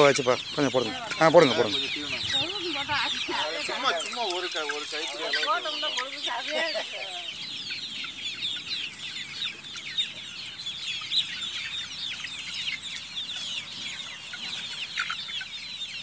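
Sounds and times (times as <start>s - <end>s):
chicks peeping and cheeping: 0.0s - 16.0s.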